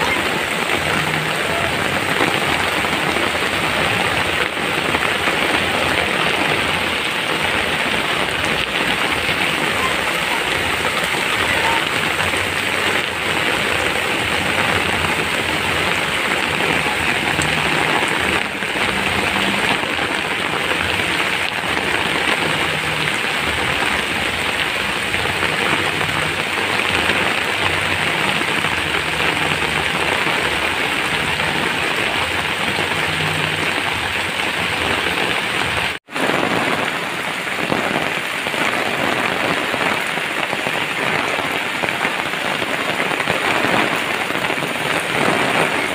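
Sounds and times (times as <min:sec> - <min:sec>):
heavy rain on puddles: 0:00.0 - 0:45.9.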